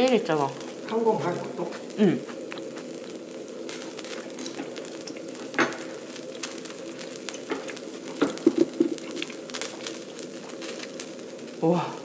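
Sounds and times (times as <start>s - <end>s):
food sizzling on grill pan: 0.0s - 12.0s.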